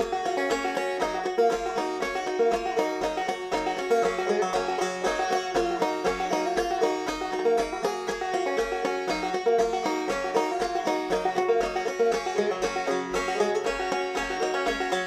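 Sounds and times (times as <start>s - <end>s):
plucked string instrumental music: 0.0s - 15.0s.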